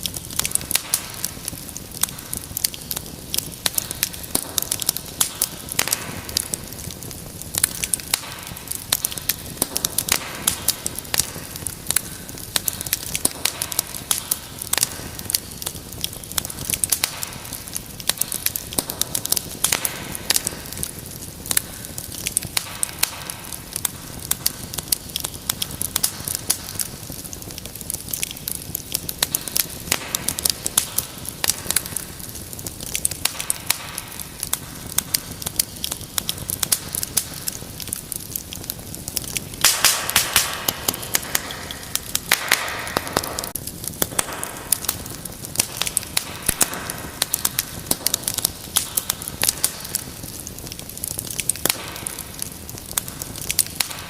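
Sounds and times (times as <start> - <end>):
fire hissing: 0.0 - 54.0
wood fire crackling: 0.0 - 54.0.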